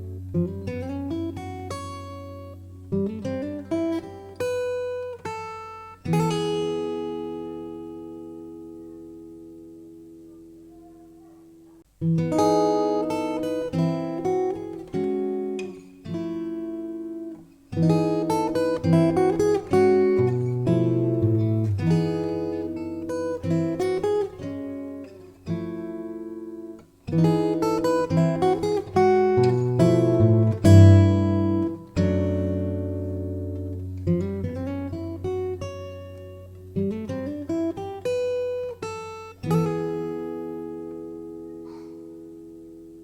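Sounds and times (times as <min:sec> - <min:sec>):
acoustic guitar plucking melody: 0:00.0 - 0:43.0.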